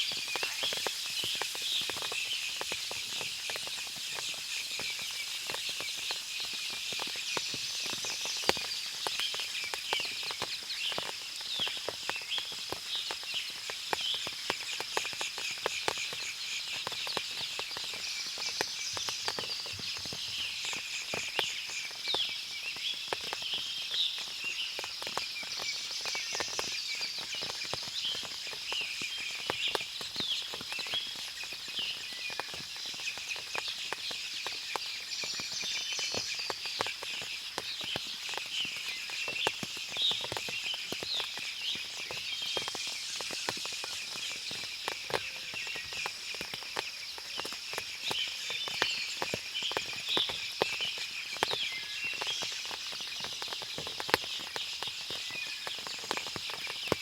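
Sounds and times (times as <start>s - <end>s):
water dripping ticks: 0.0s - 57.0s.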